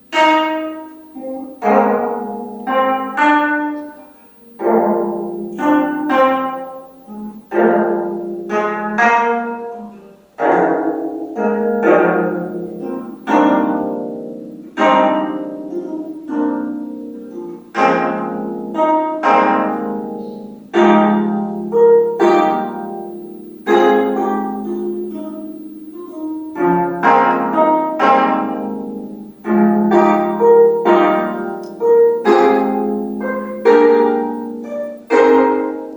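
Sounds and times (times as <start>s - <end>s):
plucked zither notes: 0.0s - 35.9s.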